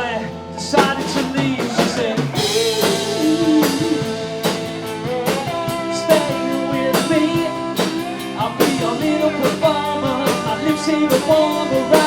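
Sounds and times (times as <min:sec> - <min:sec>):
guitar: 0:00.0 - 0:12.0
drum kit hits: 0:00.8 - 0:12.0.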